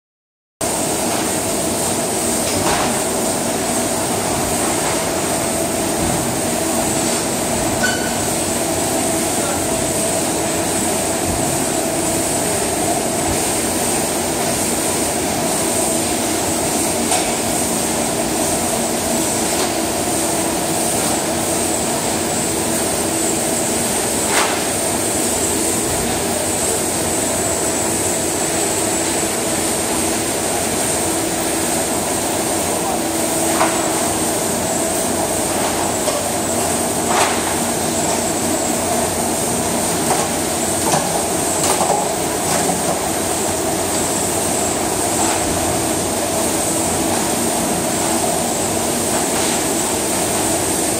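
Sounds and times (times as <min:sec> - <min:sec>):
machinery hum with high whine: 0:00.6 - 0:50.9.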